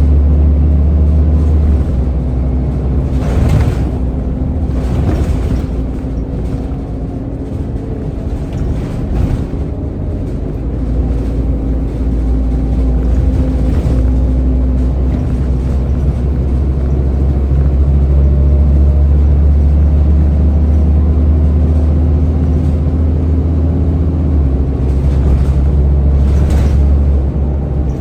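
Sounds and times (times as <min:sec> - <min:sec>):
bus engine low drone: 0:00.0 - 0:28.0.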